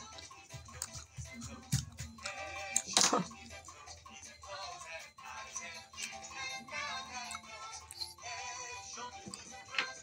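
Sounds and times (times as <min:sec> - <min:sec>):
background music: 0:00.0 - 0:10.0
person singing: 0:00.0 - 0:10.0.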